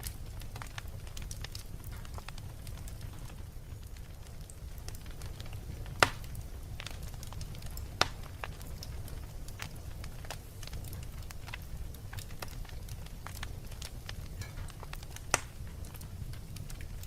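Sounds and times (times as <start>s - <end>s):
fire crackling: 0.0s - 17.0s
fire flames rumbling: 0.0s - 17.0s
sharp pops of fire: 0.0s - 17.0s.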